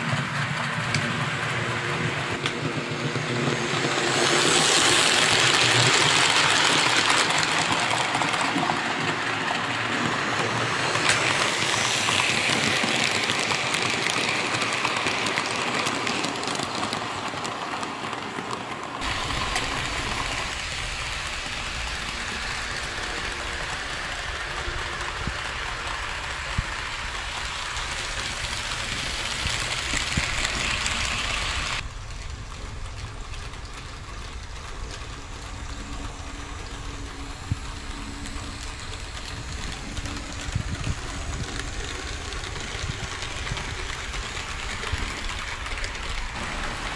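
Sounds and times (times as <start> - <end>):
model train wheels rattling on rail: 0.0 - 46.9.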